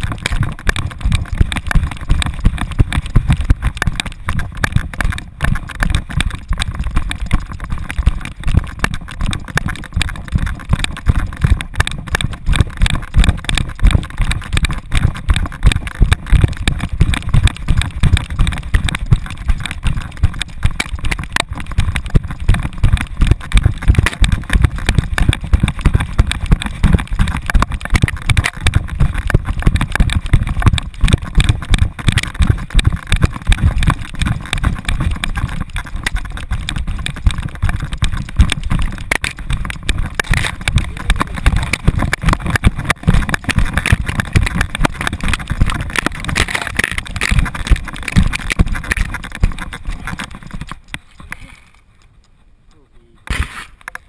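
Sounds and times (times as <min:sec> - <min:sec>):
deep thumping of dog strides: 0:00.0 - 0:50.8.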